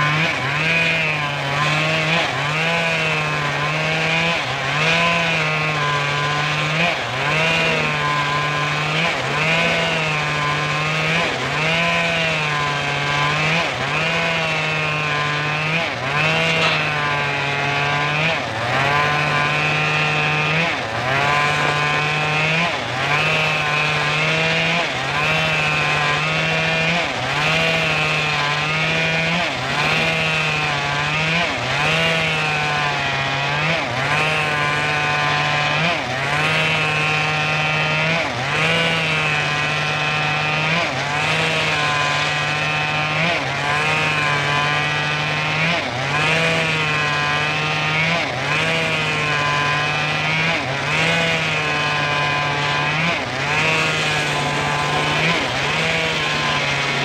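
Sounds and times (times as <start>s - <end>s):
circular saw cutting log: 0.0s - 57.0s.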